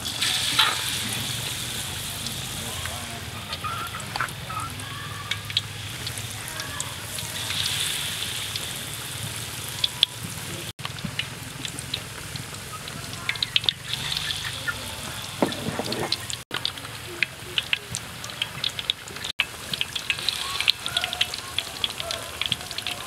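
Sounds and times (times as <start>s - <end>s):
oil popping and crackling: 0.0s - 23.0s
oil sizzling in a wok: 0.0s - 23.0s.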